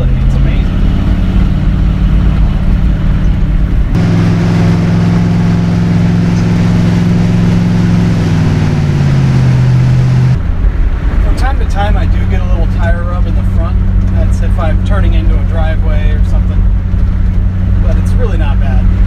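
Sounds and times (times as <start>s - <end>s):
pickup engine running: 0.0s - 19.0s.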